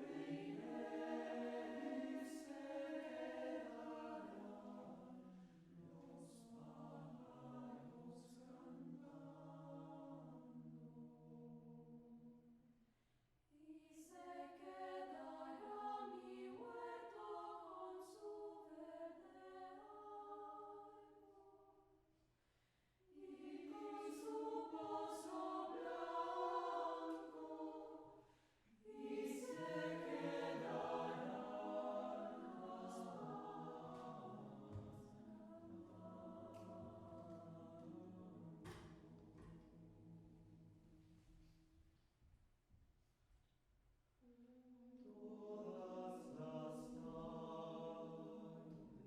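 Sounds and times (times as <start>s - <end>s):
vocal ensemble singing in harmony: 0.0s - 12.2s, 13.7s - 21.3s, 23.1s - 39.7s, 45.0s - 49.0s.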